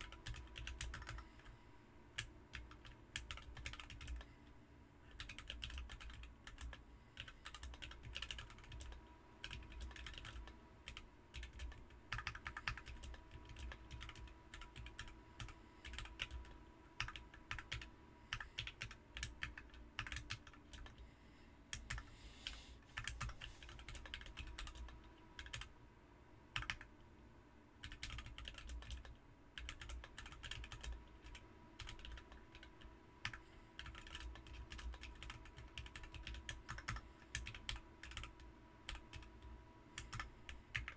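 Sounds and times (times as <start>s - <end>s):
mechanical keyboard typing: 0.0s - 1.5s, 2.2s - 4.2s, 5.1s - 21.0s, 21.7s - 25.7s, 26.6s - 26.9s, 27.8s - 40.9s.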